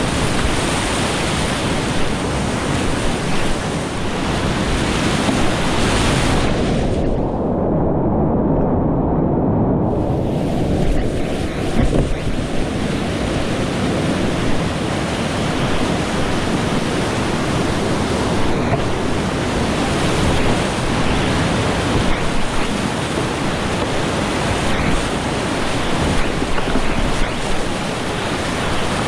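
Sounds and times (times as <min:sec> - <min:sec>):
rush of whitewater rapids: 0:00.0 - 0:07.2, 0:10.2 - 0:29.0.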